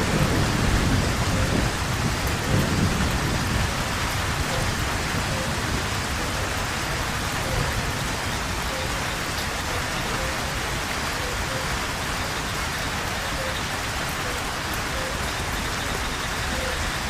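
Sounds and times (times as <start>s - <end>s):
heavy rain pattering: 0.0s - 17.0s.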